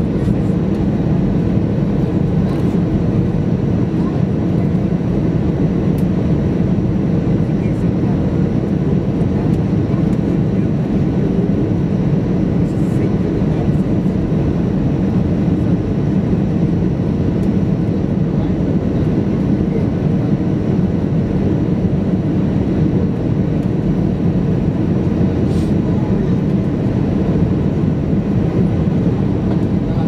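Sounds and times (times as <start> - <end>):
aircraft cabin drone: 0.0 - 30.0.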